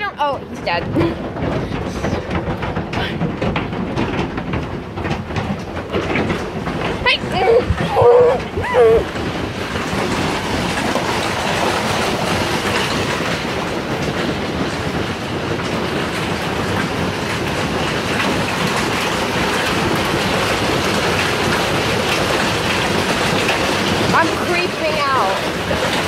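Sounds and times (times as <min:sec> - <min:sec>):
hail pounding on roof: 0:00.0 - 0:26.0.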